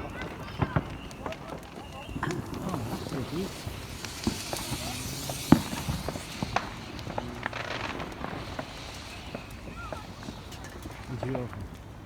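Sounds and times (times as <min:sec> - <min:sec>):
sharp firework bang: 0:00.0 - 0:11.7
fireworks popping and crackling: 0:00.0 - 0:12.0.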